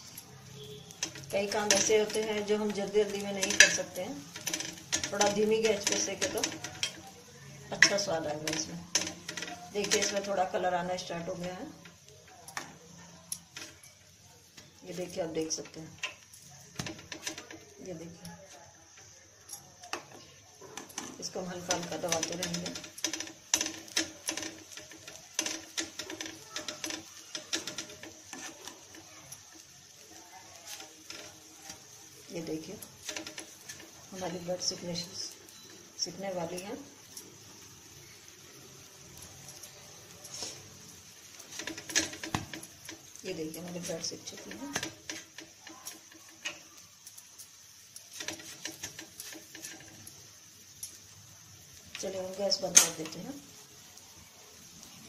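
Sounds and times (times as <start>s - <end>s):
spoon tapping on griddle: 0.0s - 53.9s
bread sizzling in a pan: 0.0s - 55.0s.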